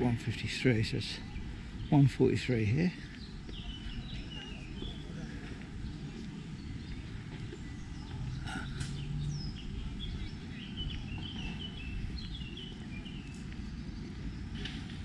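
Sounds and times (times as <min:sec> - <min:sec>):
low outdoor background rumble: 0:00.0 - 0:15.0
small birds chirping: 0:00.0 - 0:15.0.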